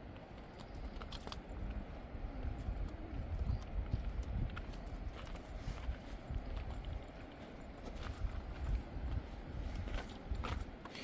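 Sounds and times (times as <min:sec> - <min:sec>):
footsteps with dull thuds: 0:00.0 - 0:11.0.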